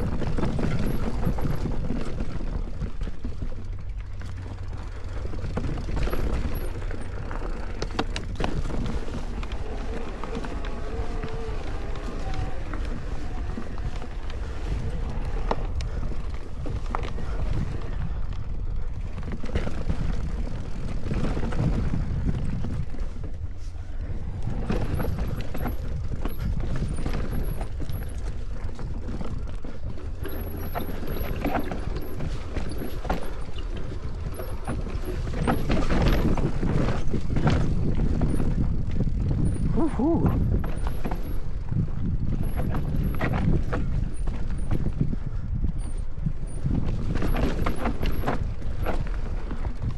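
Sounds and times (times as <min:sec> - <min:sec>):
bike chain and frame rattling: 0:00.0 - 0:49.9
tyres and wind rumbling: 0:00.0 - 0:49.9.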